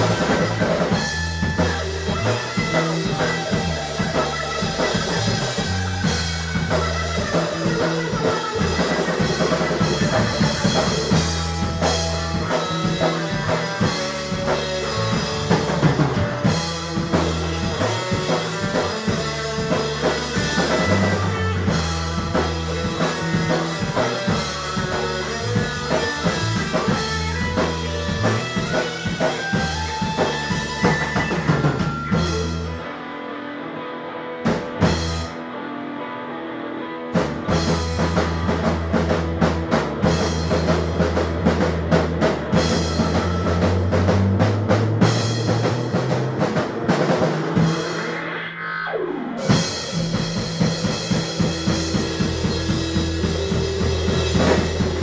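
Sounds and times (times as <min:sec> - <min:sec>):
drum kit hits: 0:00.0 - 0:32.8, 0:37.2 - 0:48.3, 0:49.4 - 0:55.0
heavy bass line: 0:00.0 - 0:32.9, 0:37.2 - 0:55.0
electric guitar: 0:00.0 - 0:55.0
rock band playing: 0:00.0 - 0:55.0.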